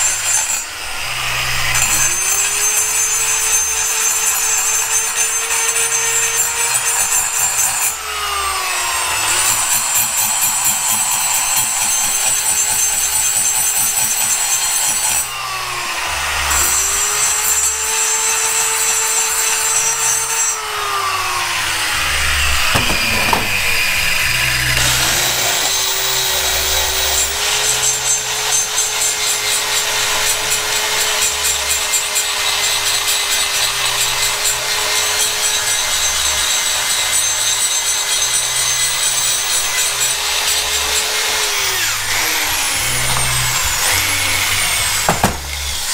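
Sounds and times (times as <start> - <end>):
die grinder whining on metal: 0.0 - 45.9.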